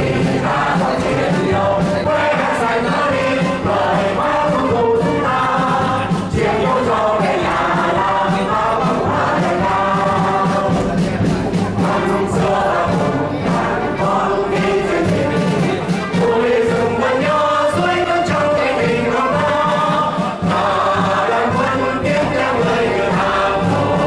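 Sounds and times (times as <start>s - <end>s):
choir singing held notes: 0.0s - 24.0s.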